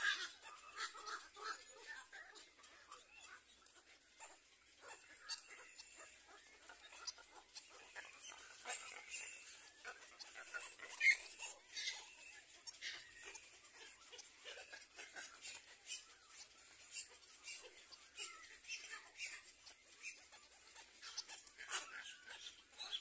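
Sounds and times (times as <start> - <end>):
heron chicks peeping: 0.0 - 23.0.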